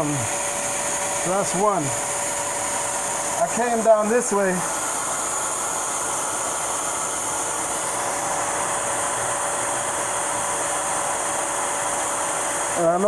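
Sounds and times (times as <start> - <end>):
shop vac blowing air: 0.0 - 13.0.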